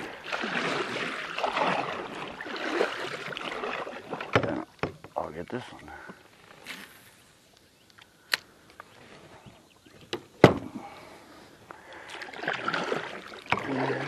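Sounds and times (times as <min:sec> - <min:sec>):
water splashing around a kayak: 0:00.0 - 0:07.6, 0:08.6 - 0:14.0.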